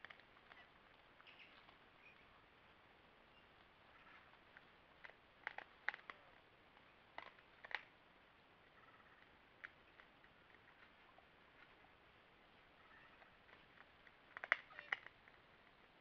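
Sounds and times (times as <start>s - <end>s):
animals crunching dry leaves: 0.0s - 7.9s, 8.6s - 16.0s.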